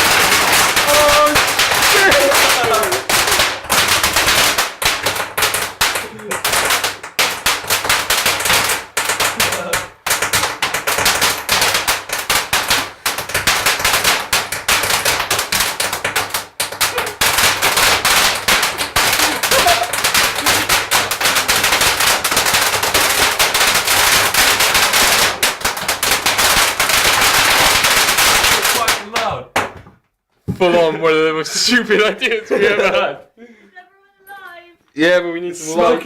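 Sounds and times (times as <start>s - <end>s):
firework bangs and crackles: 0.0s - 29.9s.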